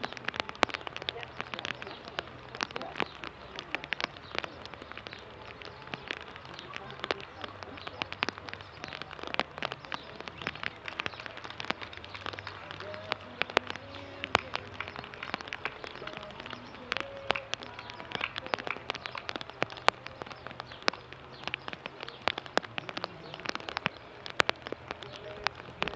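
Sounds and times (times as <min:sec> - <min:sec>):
faint voices: 0:00.0 - 0:25.9
rain pattering: 0:00.0 - 0:25.9.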